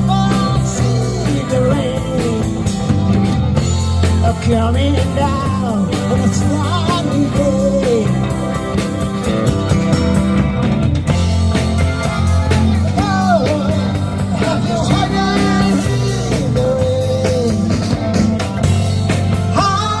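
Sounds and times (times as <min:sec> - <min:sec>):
instrumental rock music: 0:00.0 - 0:20.0.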